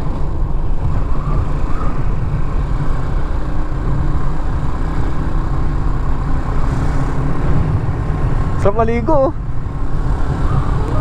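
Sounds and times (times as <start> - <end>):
motorcycle engine cruising: 0.0 - 11.0
wind buffeting microphone: 0.0 - 11.0.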